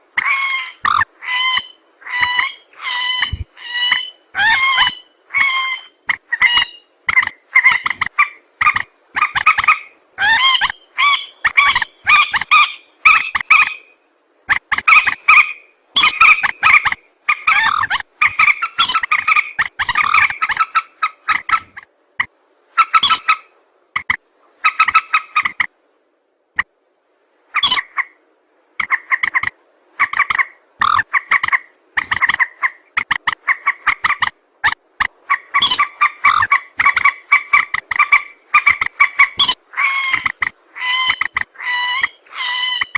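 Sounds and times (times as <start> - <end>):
rail bird harsh calls: 0.2 - 13.9, 14.5 - 21.8, 28.8 - 42.9.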